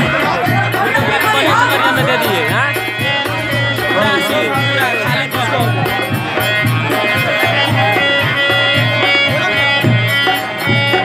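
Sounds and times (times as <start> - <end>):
man singing into microphone: 0.0 - 10.0
held instrumental tones: 0.0 - 11.0
low drum beat: 0.0 - 11.0.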